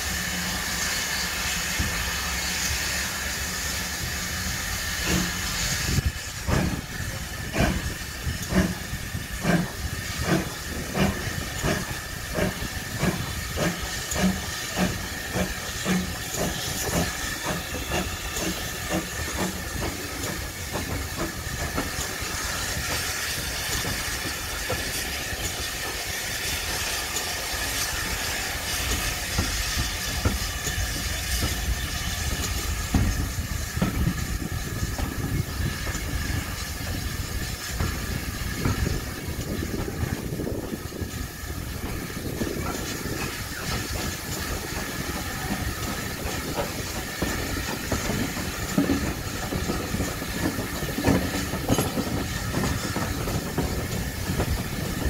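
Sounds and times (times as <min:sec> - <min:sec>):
low train rumble: 0:00.0 - 0:55.0
steam hissing: 0:00.0 - 0:55.0.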